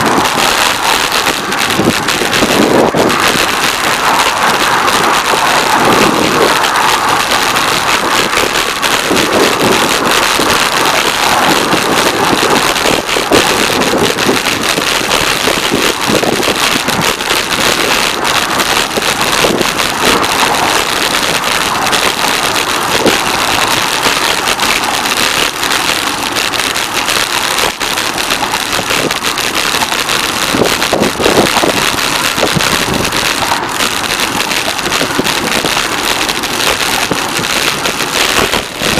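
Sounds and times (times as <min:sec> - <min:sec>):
highway traffic rush: 0:00.0 - 0:38.9
wind on microphone: 0:00.0 - 0:38.9.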